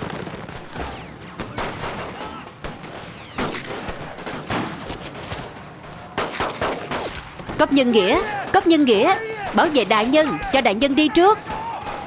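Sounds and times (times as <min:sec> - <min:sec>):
rifle shots: 0:00.0 - 0:10.5.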